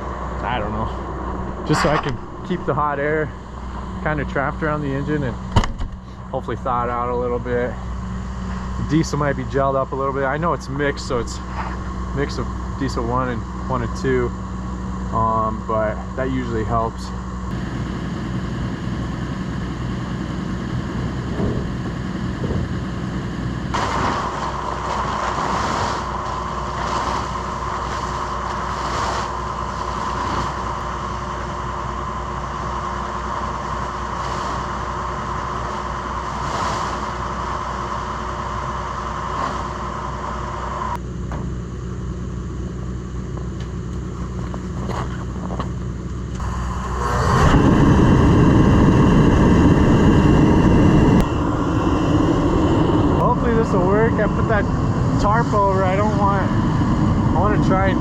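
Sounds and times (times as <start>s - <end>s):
diesel tractor engine idling: 0.0s - 58.0s
loud low rumble: 0.0s - 58.0s.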